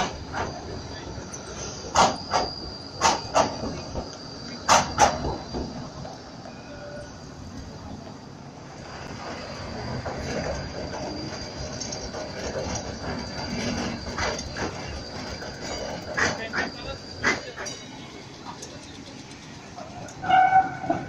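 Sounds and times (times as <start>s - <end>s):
tram rumbling past: 0.0s - 21.0s.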